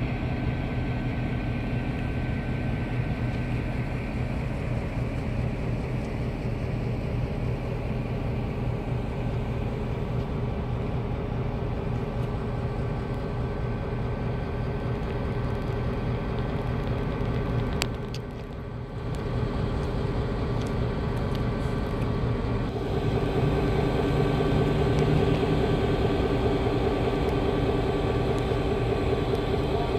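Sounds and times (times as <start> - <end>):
diesel locomotive engine droning: 0.0 - 29.9.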